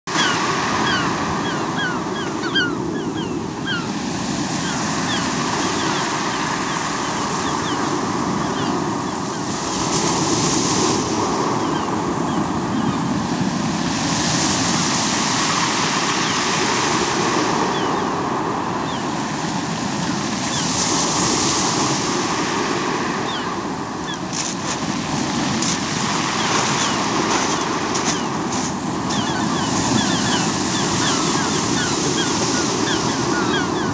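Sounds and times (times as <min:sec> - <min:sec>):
waves breaking on pebble beach: 0:00.1 - 0:02.1, 0:02.8 - 0:33.9.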